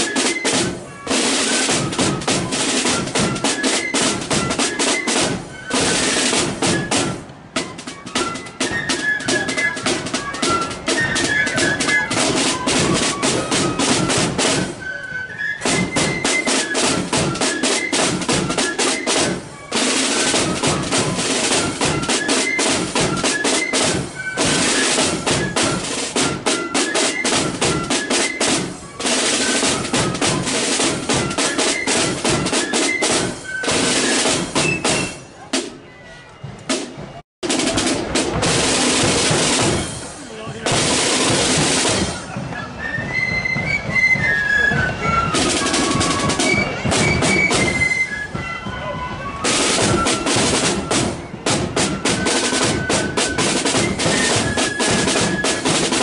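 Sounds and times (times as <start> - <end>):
snare drum rolls: 0.0 - 35.8, 36.5 - 56.0
high flute melody: 0.0 - 56.0.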